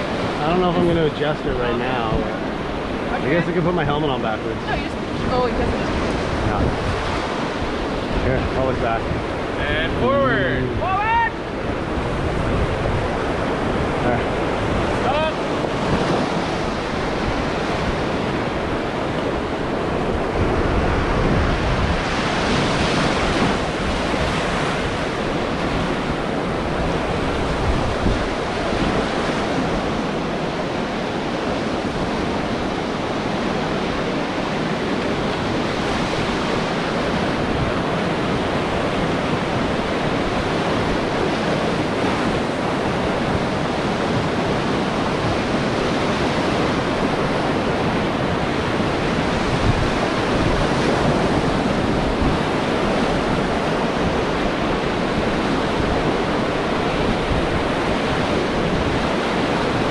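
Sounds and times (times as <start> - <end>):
river rapids rushing: 0.0 - 59.9
wind rumbling on microphone: 0.0 - 59.9.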